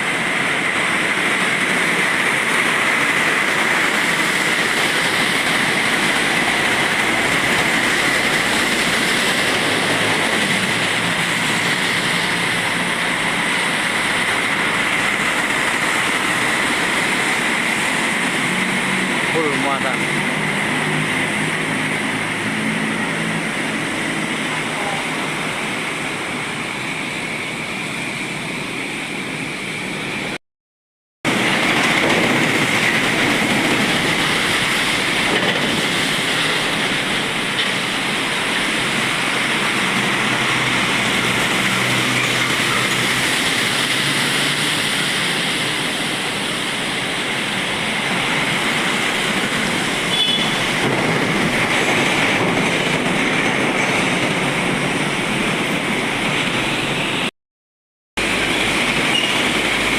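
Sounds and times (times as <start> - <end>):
trucks passing on wet road: 0.0 - 30.4, 31.3 - 57.3, 58.2 - 59.9.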